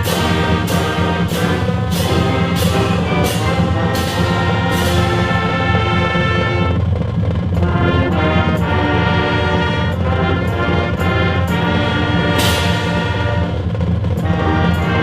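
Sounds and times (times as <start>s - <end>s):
brass band playing: 0.0s - 15.0s
percussion strokes: 0.0s - 15.0s.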